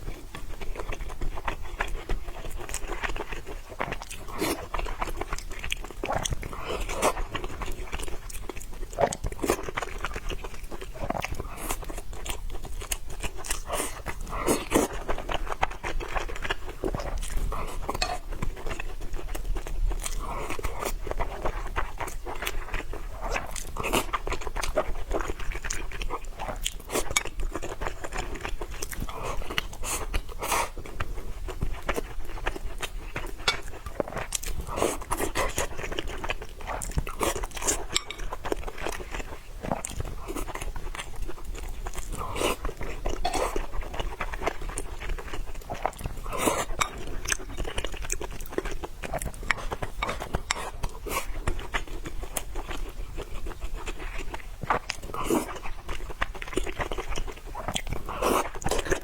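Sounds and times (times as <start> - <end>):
person chewing and biting food: 0.1 - 59.0.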